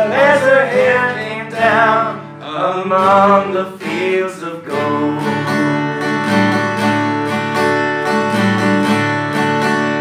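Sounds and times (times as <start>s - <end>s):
acoustic guitars strumming: 0.0s - 10.0s.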